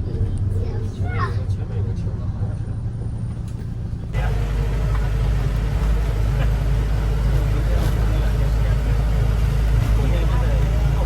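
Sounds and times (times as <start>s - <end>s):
road travel noise: 0.0s - 11.0s
vehicle engine rumble: 0.0s - 11.0s.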